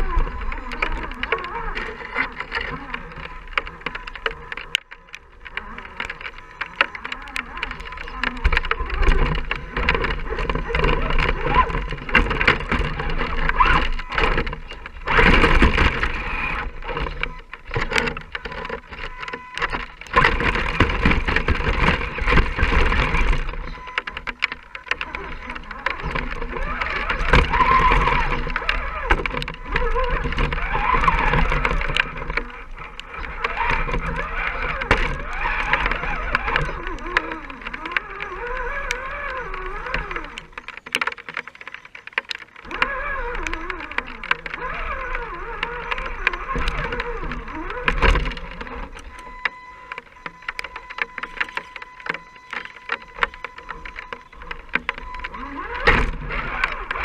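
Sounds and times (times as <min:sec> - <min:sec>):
short clicks and knocks: 0:00.0 - 0:57.0
toy truck motor whining: 0:00.0 - 0:57.0.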